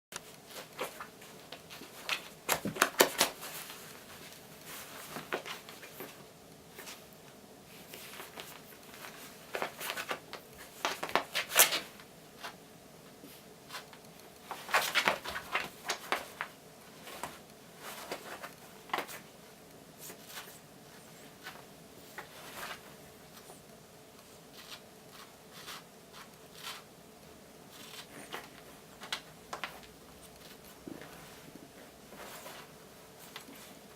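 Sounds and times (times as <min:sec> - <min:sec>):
scratching and rustling: 0:00.2 - 0:26.9, 0:27.7 - 0:33.9.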